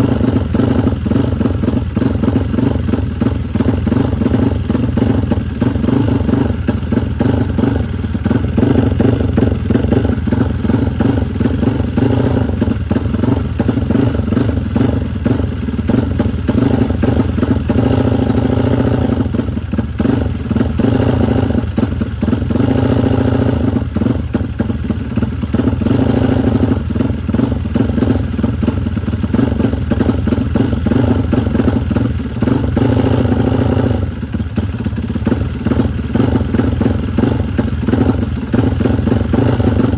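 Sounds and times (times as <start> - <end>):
motorcycle engine running loudly: 0.0 - 39.9.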